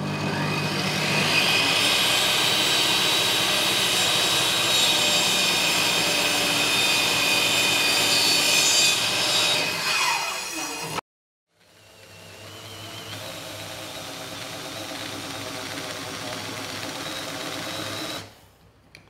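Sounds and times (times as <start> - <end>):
table saw whining: 0.0 - 11.0, 11.6 - 18.3.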